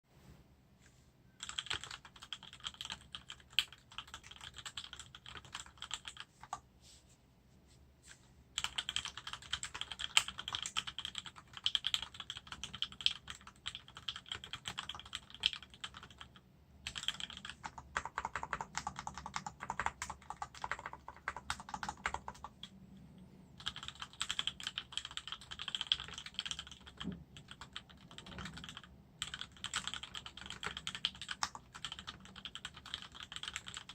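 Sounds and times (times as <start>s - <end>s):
mechanical keyboard typing: 1.4s - 6.6s, 8.6s - 22.8s, 23.6s - 33.9s.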